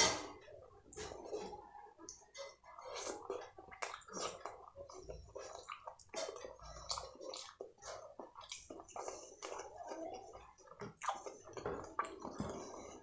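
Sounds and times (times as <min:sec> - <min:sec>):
wet chewing and lip-smacking: 0:00.9 - 0:13.0.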